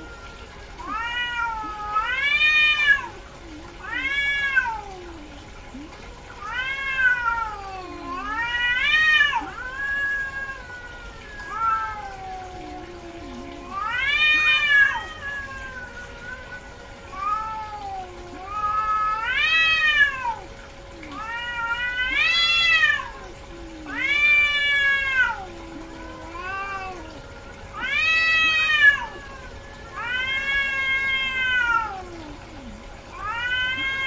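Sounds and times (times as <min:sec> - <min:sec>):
cat yowling: 0:00.0 - 0:34.0.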